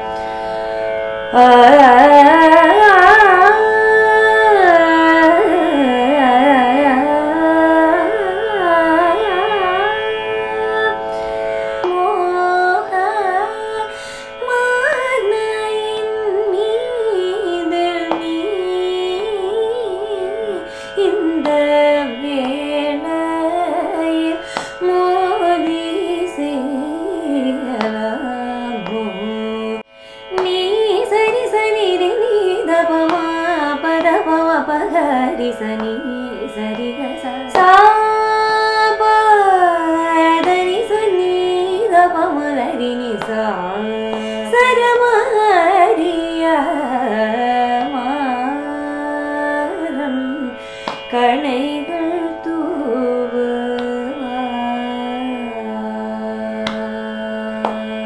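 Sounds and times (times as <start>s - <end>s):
woman singing with ornamentation: 1.4s - 10.0s, 11.8s - 58.0s.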